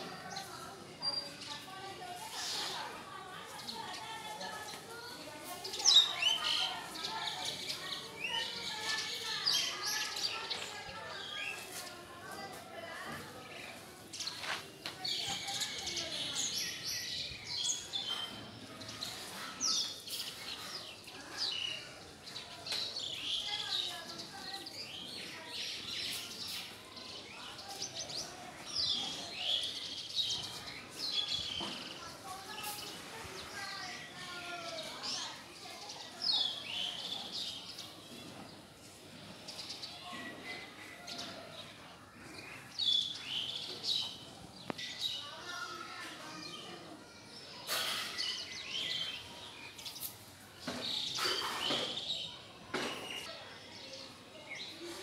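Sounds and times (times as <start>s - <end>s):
sparrows chirping: 0.0s - 54.9s.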